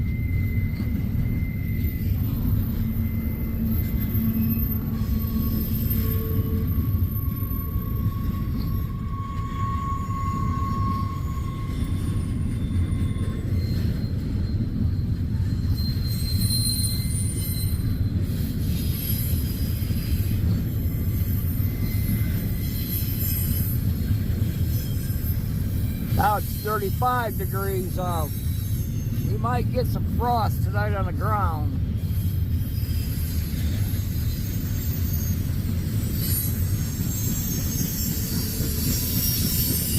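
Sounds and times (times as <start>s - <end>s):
high-pitched wheel squeals: 0.0s - 26.6s, 28.3s - 29.3s, 32.0s - 39.9s
train wheels rumbling on rail: 0.0s - 39.9s.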